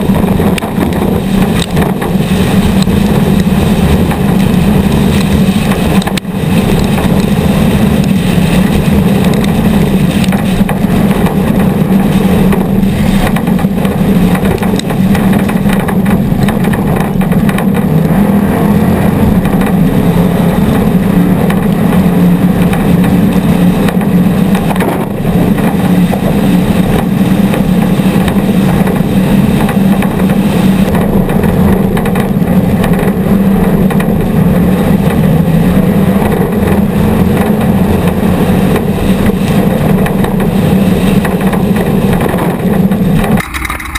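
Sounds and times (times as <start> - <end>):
race vehicle engines running: 0.0 - 43.9.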